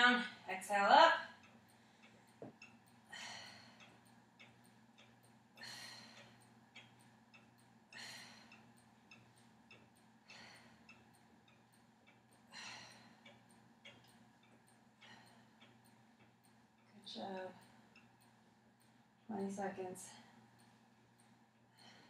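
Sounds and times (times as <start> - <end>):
faint ticking: 0.0 - 22.0.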